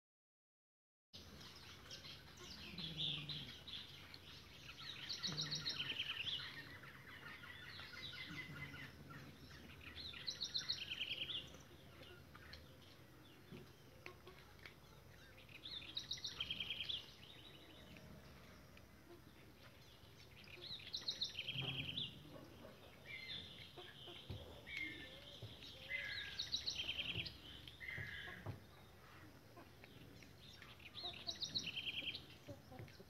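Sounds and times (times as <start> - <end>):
bird trilling song: 1.2 - 14.2, 15.0 - 18.6, 19.9 - 33.0
bird chirps: 1.2 - 33.0.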